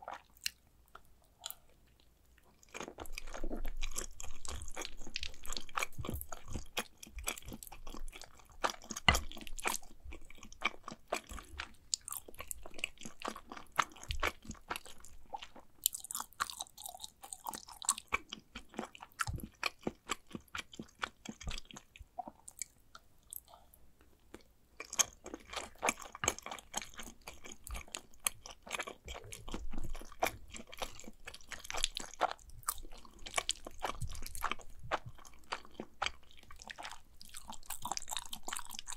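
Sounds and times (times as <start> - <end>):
close chewing with lip smacks: 0.0 - 23.7, 24.3 - 38.9.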